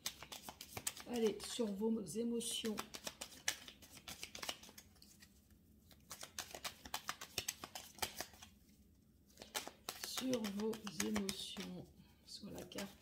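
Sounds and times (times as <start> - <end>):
cards being shuffled: 0.0 - 1.7, 2.6 - 8.6, 9.3 - 11.8, 12.5 - 13.0.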